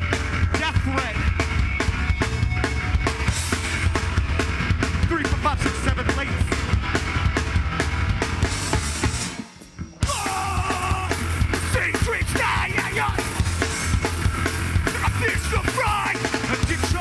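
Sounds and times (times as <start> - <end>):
fast drum beat: 0.0 - 9.3, 10.0 - 17.0
rock band playing loud: 0.0 - 17.0.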